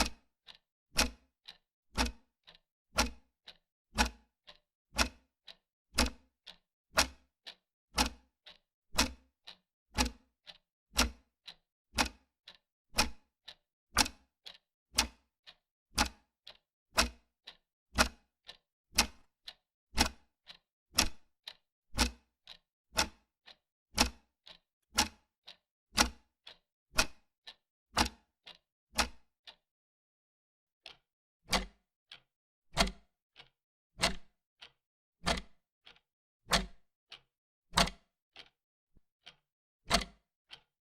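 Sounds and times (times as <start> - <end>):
clock ticking: 0.0 - 29.6, 30.8 - 38.6, 39.2 - 40.7.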